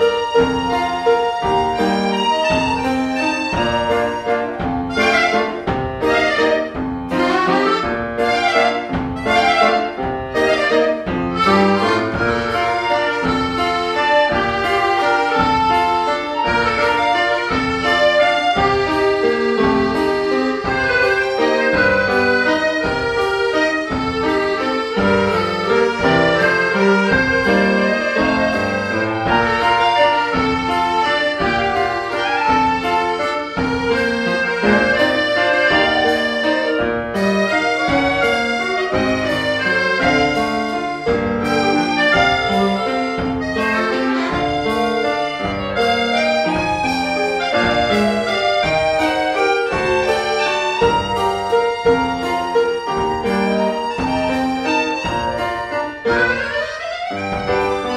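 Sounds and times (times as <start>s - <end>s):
chamber ensemble playing: 0.0s - 57.9s.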